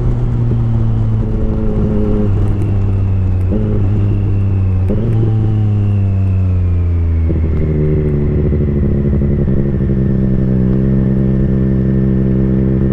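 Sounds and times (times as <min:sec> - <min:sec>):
motorcycle engine and exhaust: 0:00.0 - 0:12.9.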